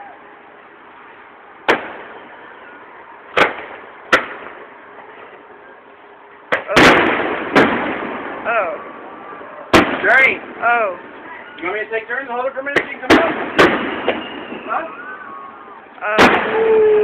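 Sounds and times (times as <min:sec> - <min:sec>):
fireworks bangs: 0:01.0 - 0:05.7, 0:06.5 - 0:17.0.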